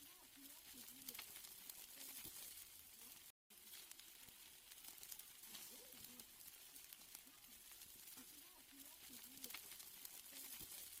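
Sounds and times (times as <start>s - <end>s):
steaks sizzling on a grill: 0.0s - 11.0s.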